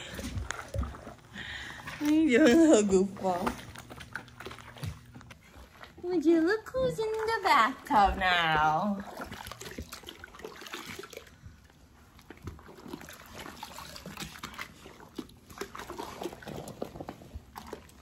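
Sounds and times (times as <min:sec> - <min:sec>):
bath water sloshing: 0:00.0 - 0:18.0.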